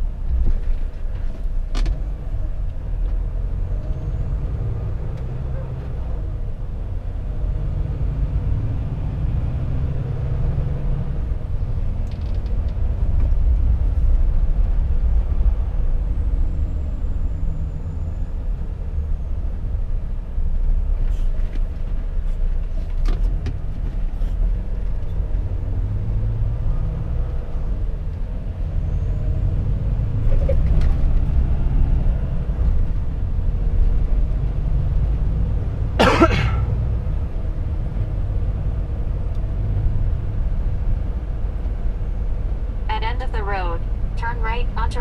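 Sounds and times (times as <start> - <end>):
truck diesel engine rumbling: 0.0 - 45.0.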